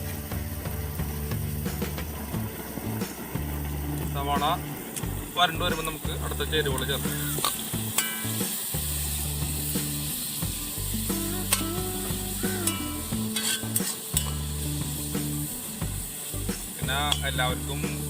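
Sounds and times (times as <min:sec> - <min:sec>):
low hum: 0:00.0 - 0:16.6
onions sizzling in a pan: 0:00.0 - 0:18.0.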